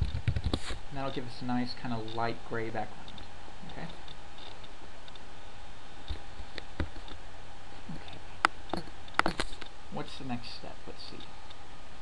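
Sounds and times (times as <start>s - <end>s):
background hiss and low hum: 0.0s - 12.0s.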